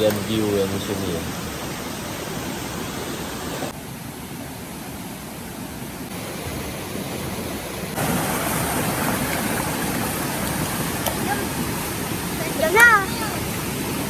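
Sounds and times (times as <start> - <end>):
flowing water rushing: 0.0 - 14.0.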